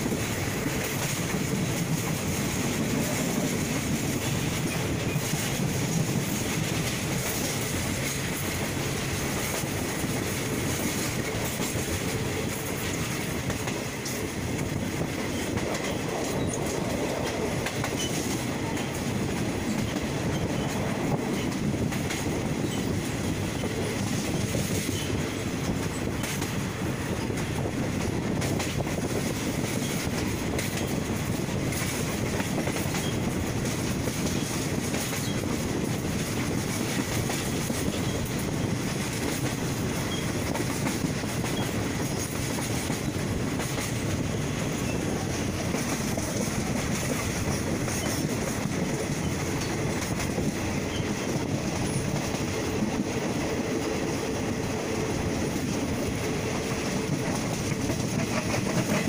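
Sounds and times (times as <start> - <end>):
rail joints clacking: 0.0 - 59.0
train wheels rumbling on rails: 0.0 - 59.0.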